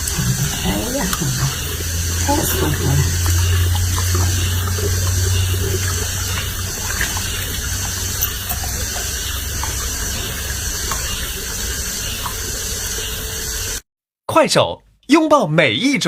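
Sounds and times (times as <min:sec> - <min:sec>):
low hum: 0:00.0 - 0:13.8
water running: 0:00.0 - 0:13.8.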